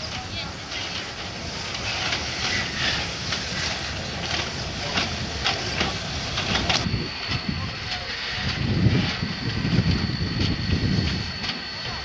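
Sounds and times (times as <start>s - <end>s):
steam locomotive hissing beats: 0.0s - 12.0s
train rumbling: 0.0s - 12.0s.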